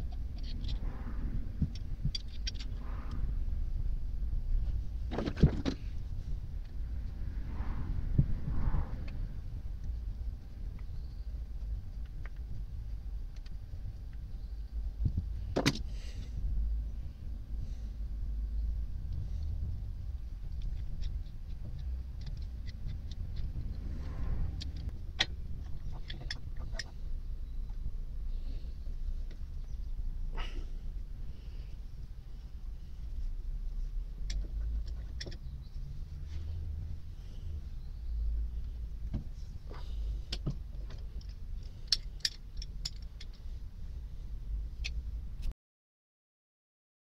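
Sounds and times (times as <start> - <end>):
steady low rumble: 0.0 - 45.5.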